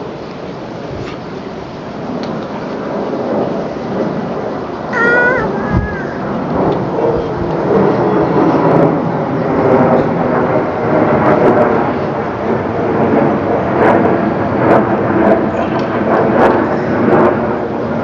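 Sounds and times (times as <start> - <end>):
airliner engine passing overhead: 0.0 - 18.0.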